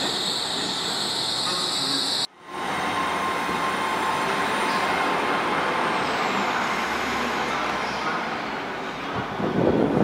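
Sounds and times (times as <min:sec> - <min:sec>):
train rumble and hiss: 0:00.0 - 0:10.0.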